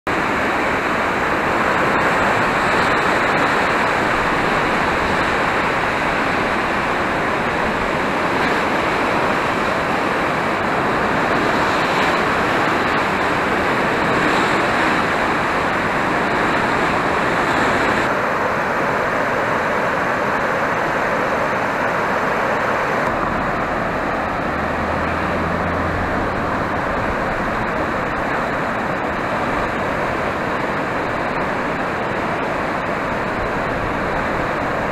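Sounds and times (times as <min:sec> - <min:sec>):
turbulent floodwater rushing: 0:00.0 - 0:34.9.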